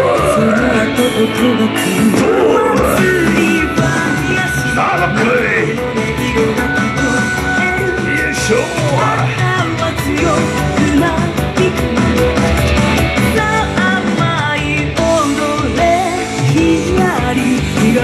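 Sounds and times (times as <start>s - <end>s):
dance song over loudspeakers: 0.0s - 18.0s.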